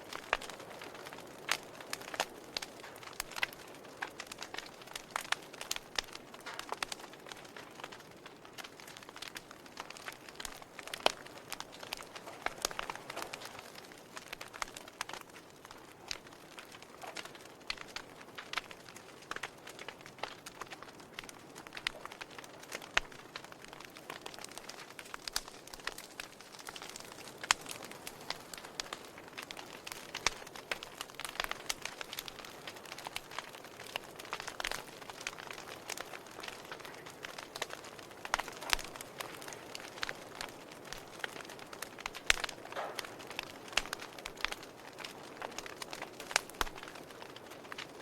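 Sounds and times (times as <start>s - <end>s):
logs crackling in a fireplace: 0.0s - 48.0s.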